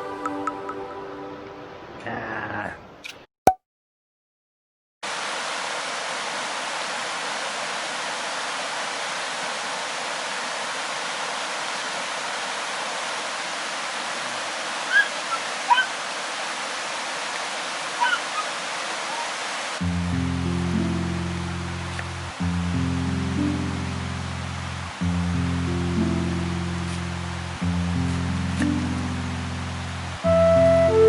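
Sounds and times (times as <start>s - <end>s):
mountain stream rushing: 5.0s - 31.0s.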